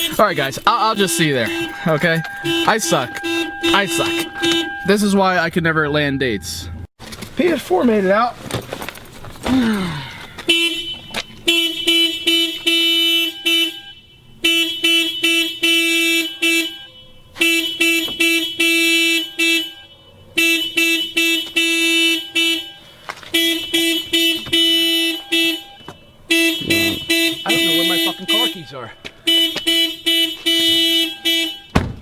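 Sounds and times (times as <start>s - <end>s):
car alarm horn honking: 0.0s - 6.9s, 10.5s - 32.0s.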